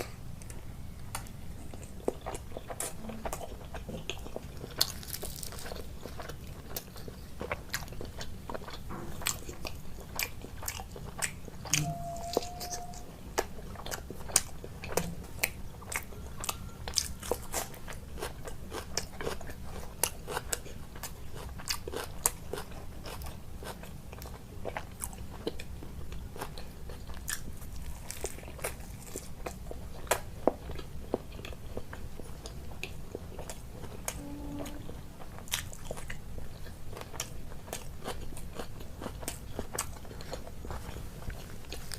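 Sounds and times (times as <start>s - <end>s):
crunchy chewing of food: 0.0s - 41.9s.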